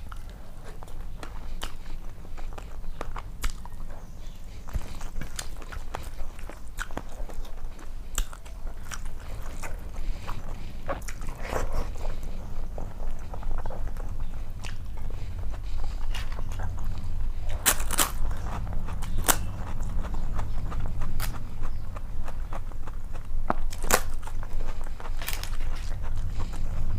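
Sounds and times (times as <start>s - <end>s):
person chewing crunchy food: 0.0s - 26.9s.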